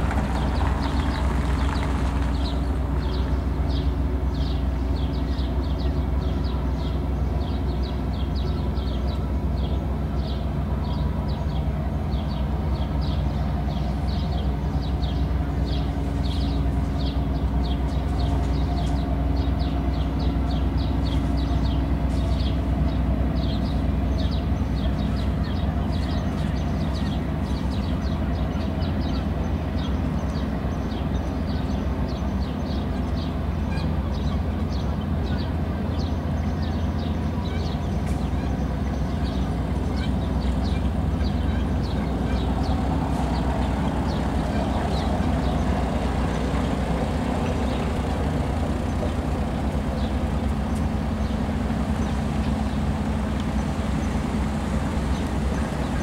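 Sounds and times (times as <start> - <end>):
low mechanical drone: 0.0 - 56.0
small birds chirping: 0.0 - 56.0.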